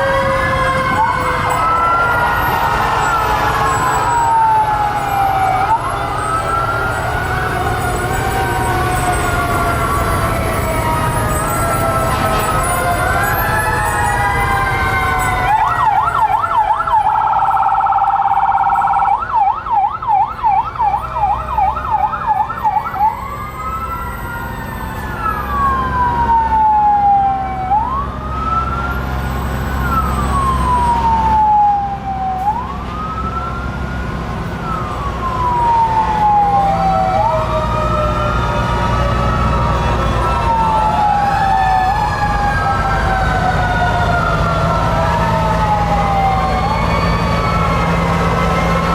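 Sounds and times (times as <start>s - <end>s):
fire truck sirens: 0.0s - 48.9s
truck engines rumbling: 0.0s - 48.9s.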